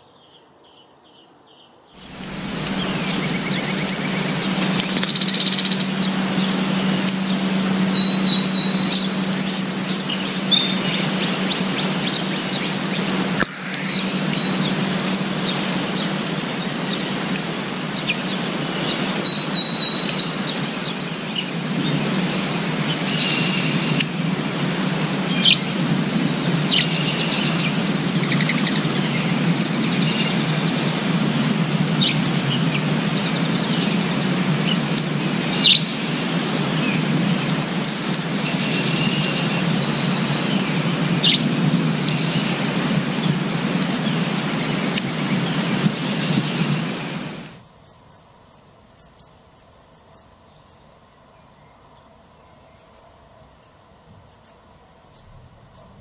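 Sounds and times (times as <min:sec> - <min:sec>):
wild birds chirping: 0:00.0 - 0:56.0
steady background hiss: 0:02.0 - 0:56.0.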